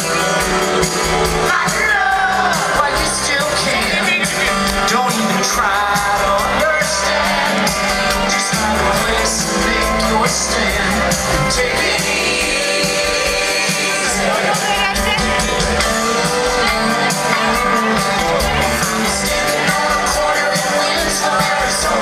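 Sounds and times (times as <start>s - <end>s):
live country-rock band: 0.0s - 22.0s
person singing lead vocal: 0.0s - 22.0s.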